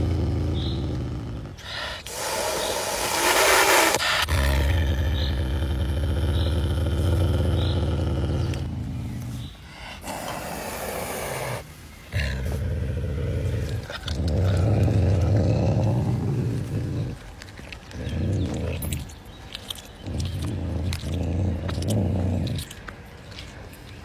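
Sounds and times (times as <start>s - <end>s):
wild cat hissing: 0.0s - 23.6s
wild cat growling: 0.0s - 24.0s.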